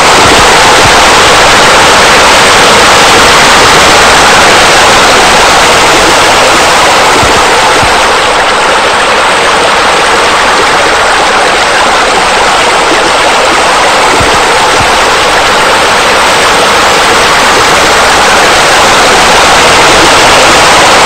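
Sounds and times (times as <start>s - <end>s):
loud steady rushing noise: 0.0s - 21.0s.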